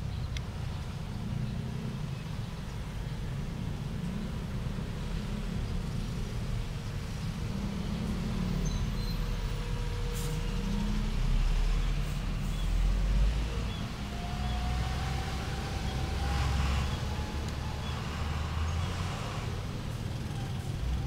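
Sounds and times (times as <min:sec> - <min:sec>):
street traffic rumble: 0:00.0 - 0:21.0
vehicle engine passing: 0:03.2 - 0:21.0.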